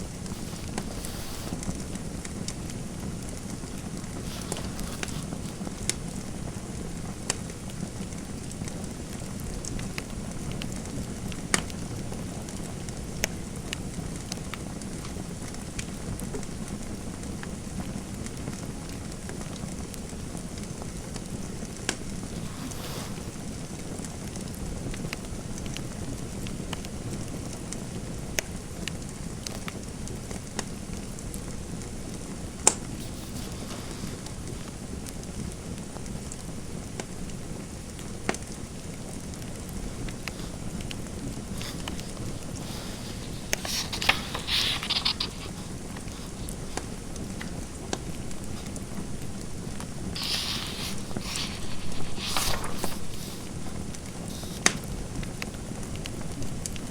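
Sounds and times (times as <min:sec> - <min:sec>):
fireplace fire crackling: 0:00.0 - 0:56.9.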